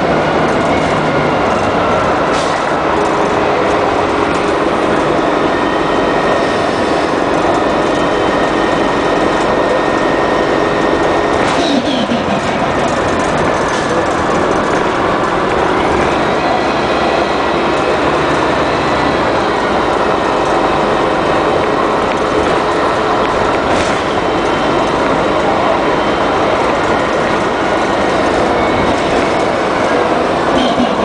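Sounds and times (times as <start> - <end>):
bus engine running: 0.0 - 31.0.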